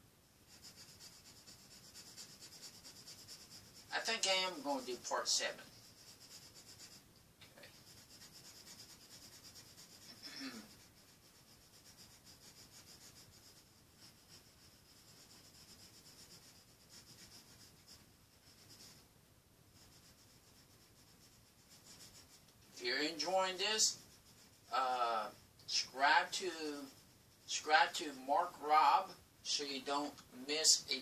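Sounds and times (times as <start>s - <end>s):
pencil scratching on paper: 0.4s - 19.1s, 19.7s - 31.0s.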